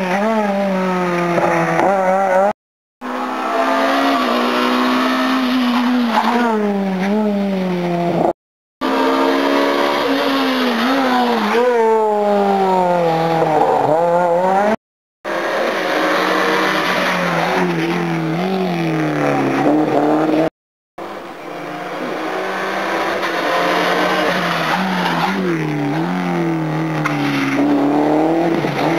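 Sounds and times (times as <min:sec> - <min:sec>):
rally car engines revving: 0:00.0 - 0:28.9.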